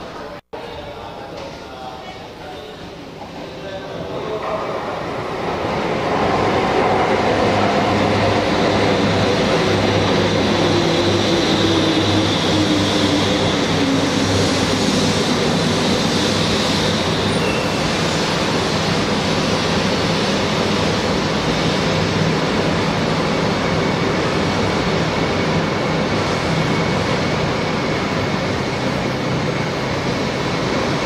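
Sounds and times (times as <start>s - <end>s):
train cars rumbling past: 3.3s - 31.0s.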